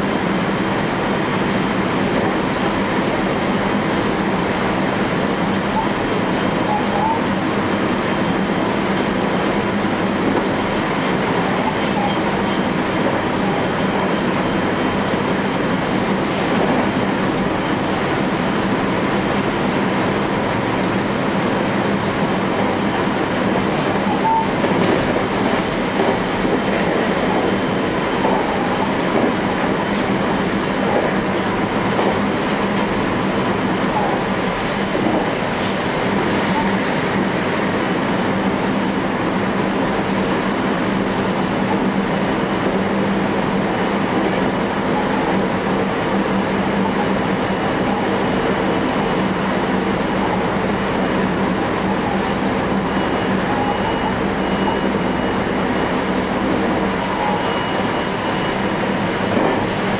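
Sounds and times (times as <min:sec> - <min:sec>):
steady low train hum: 0:00.0 - 0:59.9
train wheels running on rails: 0:00.0 - 0:59.9.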